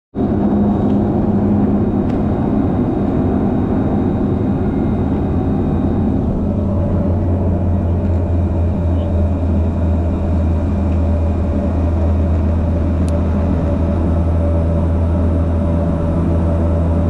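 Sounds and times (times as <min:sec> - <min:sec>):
turboprop engine drone: 0:00.1 - 0:17.0.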